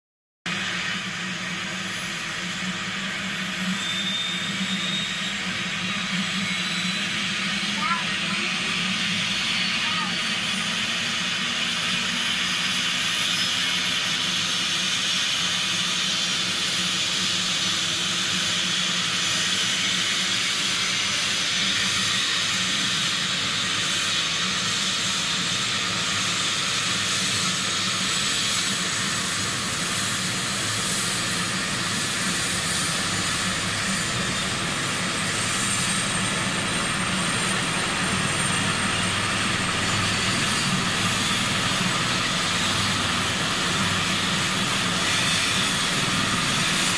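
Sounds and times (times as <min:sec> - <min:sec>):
helicopter rotor and engine noise: 0:00.5 - 0:46.9
helicopter turbine whine: 0:00.5 - 0:46.9.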